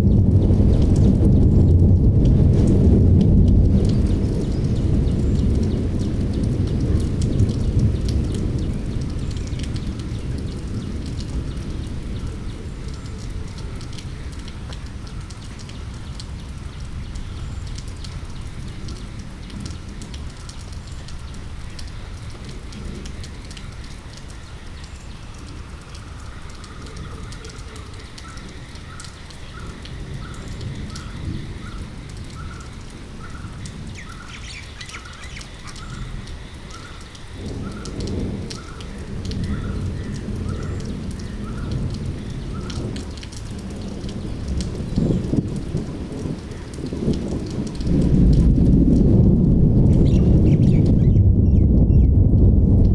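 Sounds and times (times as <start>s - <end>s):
low thunder rumble: 0.0s - 52.9s
steady rain: 0.0s - 52.9s.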